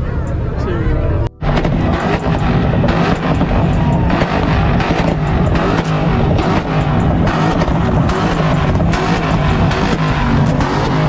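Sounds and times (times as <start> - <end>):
car engines revving high: 0.0 - 11.0
exhaust popping and cracking: 1.4 - 11.0.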